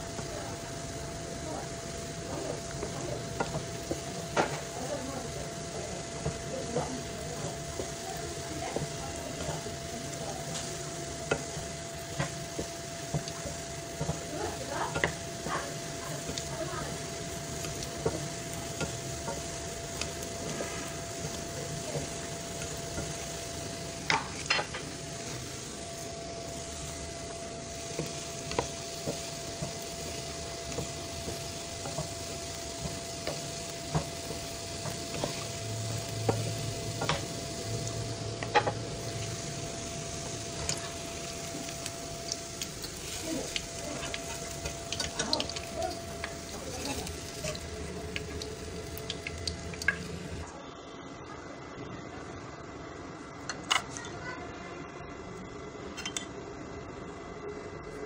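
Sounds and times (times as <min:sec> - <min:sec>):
dough sizzling in hot oil: 0:00.0 - 0:50.5.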